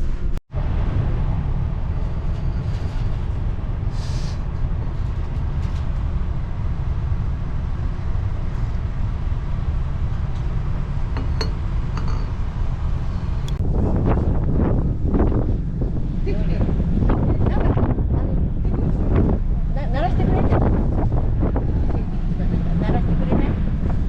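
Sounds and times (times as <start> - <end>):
ship engine rumble: 0.0 - 24.0.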